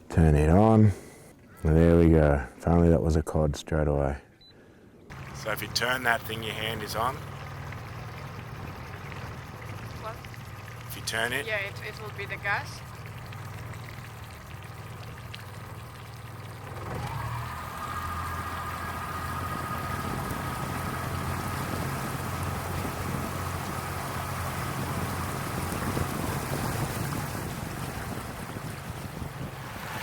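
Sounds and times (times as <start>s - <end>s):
outboard motor running: 5.1s - 30.0s
water rushing along hull: 5.1s - 30.0s.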